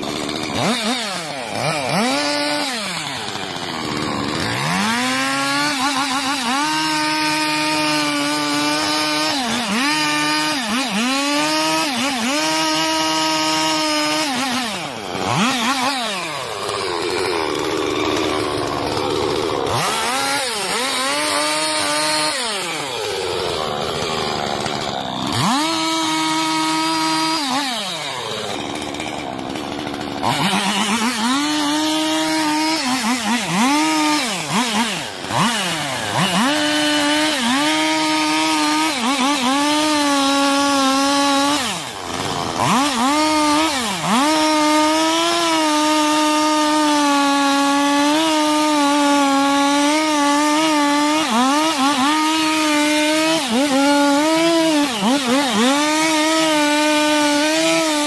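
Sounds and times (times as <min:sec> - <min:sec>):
chainsaw cutting tree: 0:00.0 - 0:58.0.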